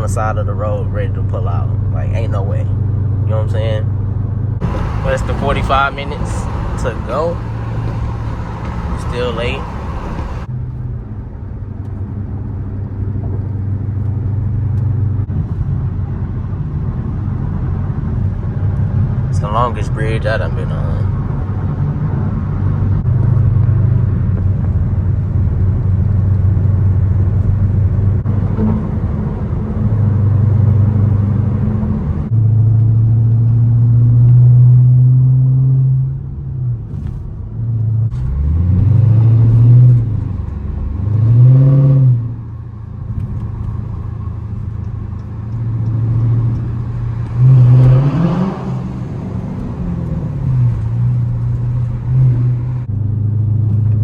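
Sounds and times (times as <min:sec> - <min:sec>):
car engine droning and revving: 0:00.0 - 0:54.0
road noise: 0:00.0 - 0:54.0.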